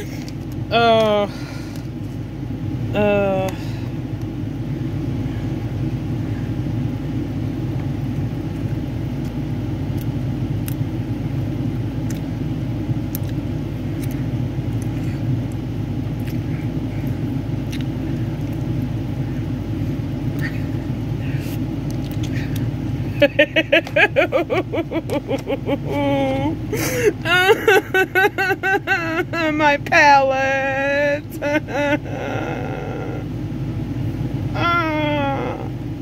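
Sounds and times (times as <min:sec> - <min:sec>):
low mechanical rumble: 0:00.0 - 0:36.0.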